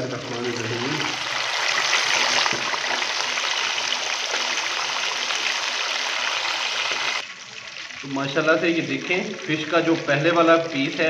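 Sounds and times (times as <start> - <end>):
fish deep-frying in hot fat: 0.0 - 11.0.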